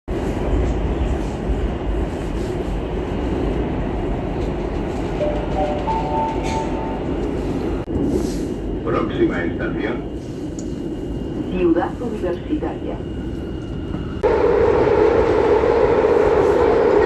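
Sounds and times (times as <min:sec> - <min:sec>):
train rumble inside carriage: 0:00.1 - 0:17.0.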